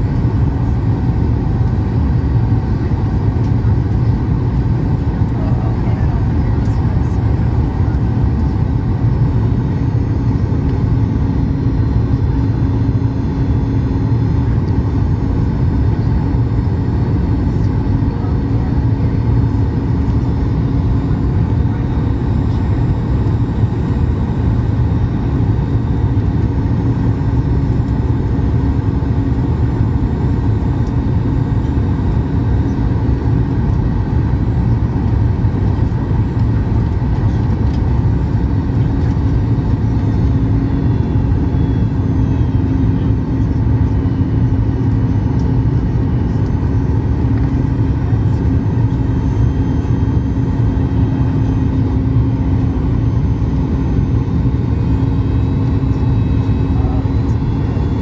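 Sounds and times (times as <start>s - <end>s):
low hum of jet engines: 0.0s - 58.0s.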